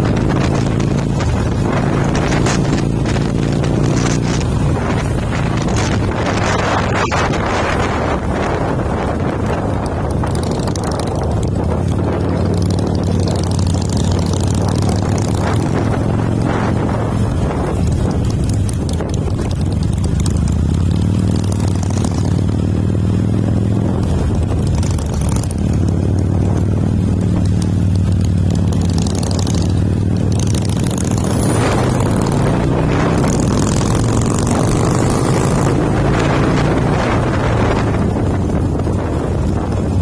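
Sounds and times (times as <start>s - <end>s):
motorcycle engine running: 0.0s - 40.0s
wind rushing over microphone: 0.0s - 40.0s.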